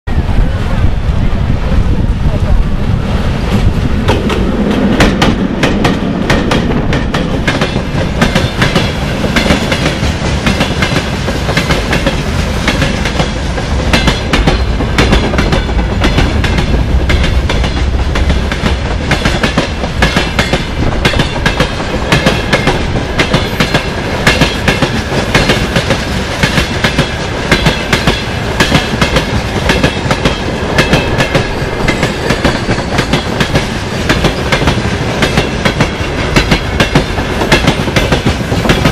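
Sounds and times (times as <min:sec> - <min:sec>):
train wheels clacking over rails: 0:03.2 - 0:38.9.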